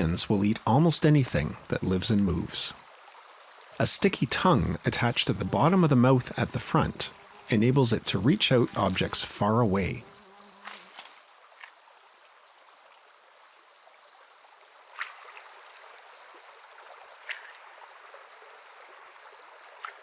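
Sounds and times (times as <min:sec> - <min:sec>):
forest stream running: 0:00.0 - 0:20.0.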